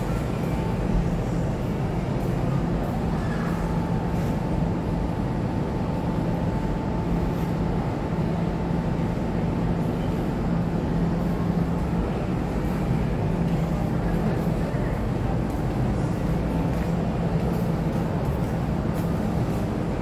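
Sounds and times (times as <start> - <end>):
shopping mall rumble and hum: 0.0 - 20.0.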